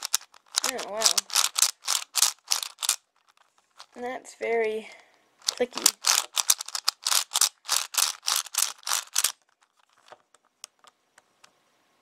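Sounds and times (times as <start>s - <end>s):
plastic puzzle cube clicking: 0.0s - 4.0s, 5.4s - 11.6s.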